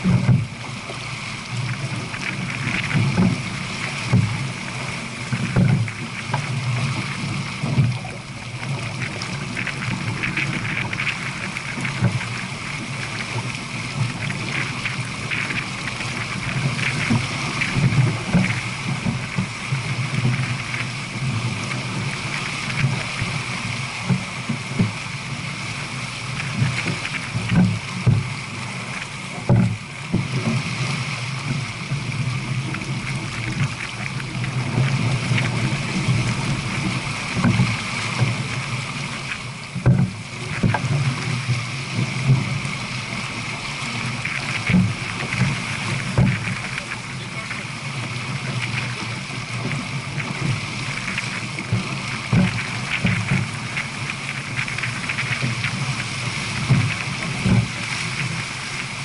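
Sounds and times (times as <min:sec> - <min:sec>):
water rushing along boat hull: 0:00.0 - 0:59.0
wind on microphone: 0:00.0 - 0:59.0.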